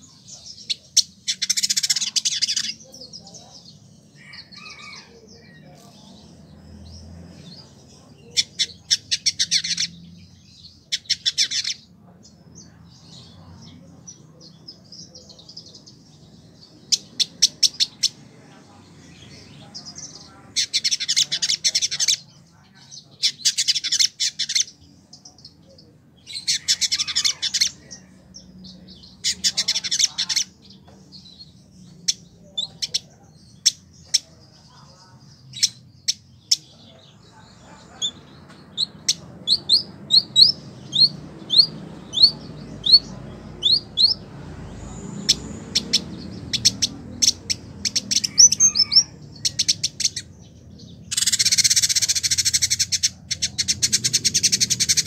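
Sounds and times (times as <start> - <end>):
bird singing buzzy chattering phrases: 0.0 - 55.0.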